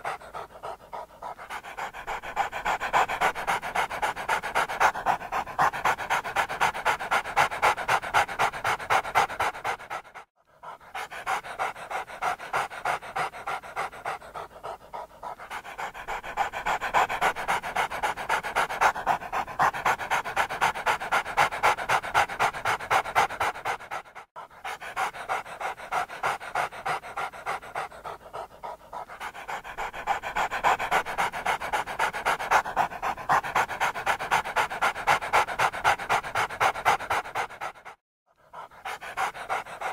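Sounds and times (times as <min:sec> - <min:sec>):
large dog panting hard: 0:00.0 - 0:39.9.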